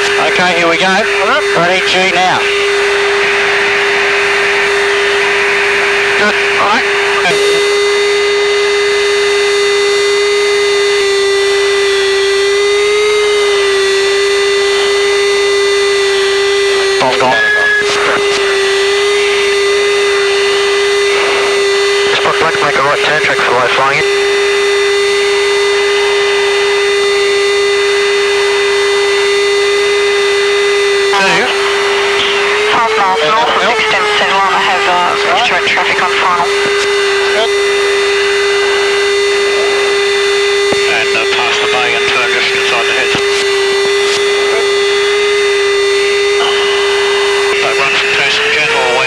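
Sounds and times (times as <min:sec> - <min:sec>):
loud whine in cockpit: 0:00.0 - 0:49.0.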